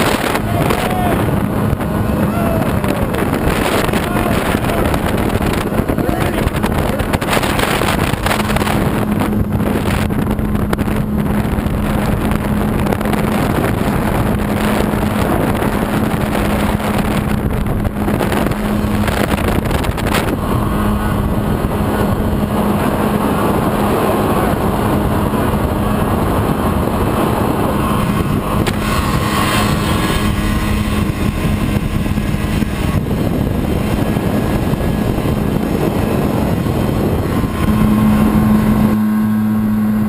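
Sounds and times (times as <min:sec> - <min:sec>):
jet boat engine running: 0:00.0 - 0:40.0
water rushing around hull: 0:00.0 - 0:40.0.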